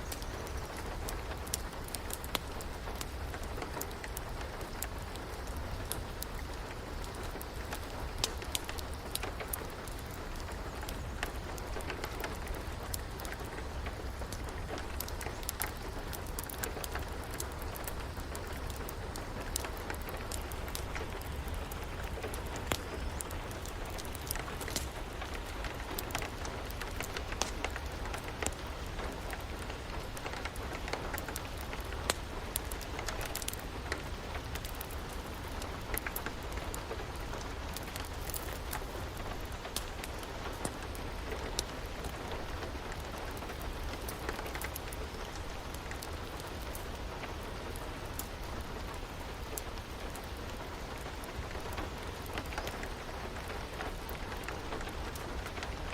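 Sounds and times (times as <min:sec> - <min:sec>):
steady rain: 0:00.0 - 0:55.9
wood fire crackling: 0:00.0 - 0:55.9.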